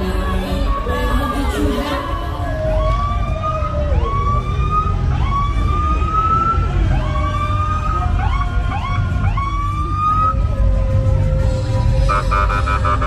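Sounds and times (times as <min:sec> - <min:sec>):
siren rising and falling: 0:00.0 - 0:13.0.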